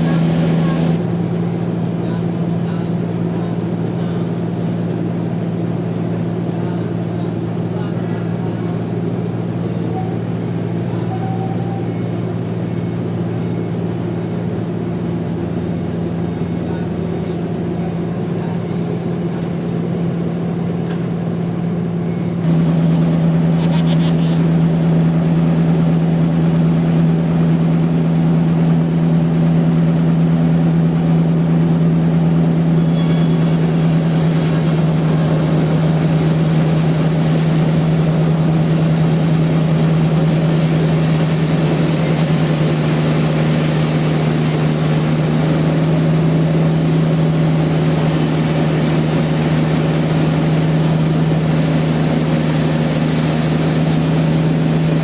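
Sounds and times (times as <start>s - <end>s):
sawmill machinery humming: 0.0s - 55.0s.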